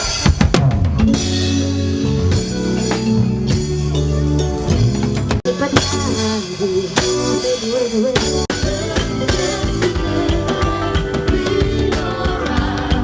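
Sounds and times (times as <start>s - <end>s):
band with drums and guitar: 0.0s - 13.0s.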